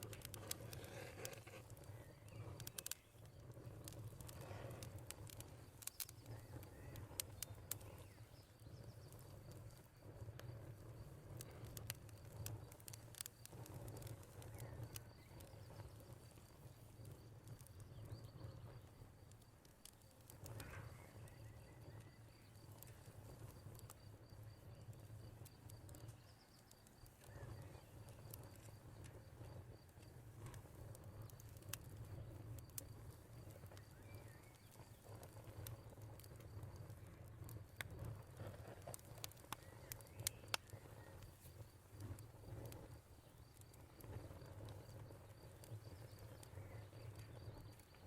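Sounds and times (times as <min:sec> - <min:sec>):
crickets chirring: 0:00.0 - 0:48.0
wood fire crackling and popping: 0:00.0 - 0:48.0.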